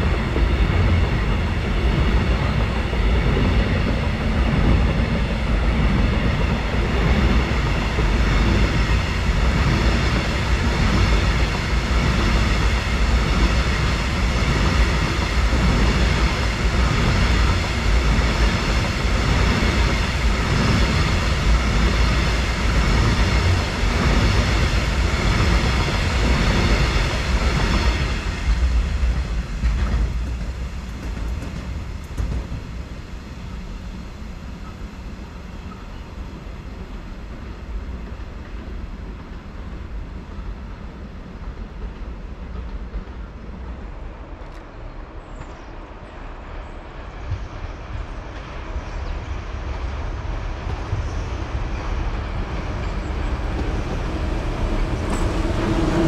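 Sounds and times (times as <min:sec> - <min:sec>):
train rumbling on tracks: 0:00.0 - 0:56.0.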